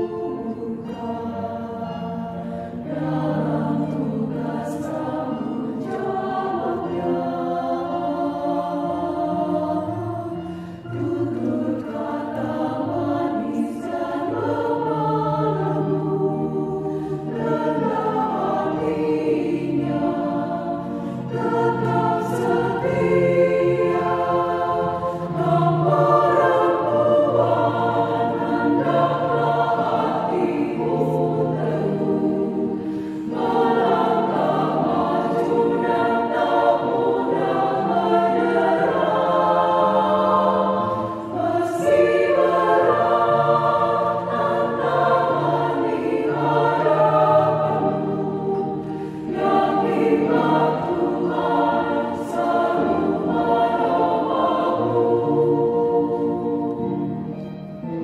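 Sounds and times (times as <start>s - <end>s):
women's choir singing a hymn: 0.0s - 58.0s.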